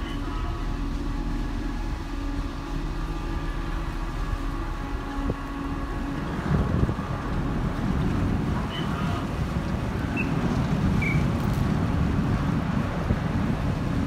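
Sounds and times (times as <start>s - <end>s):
ship machinery droning: 0.0s - 14.0s.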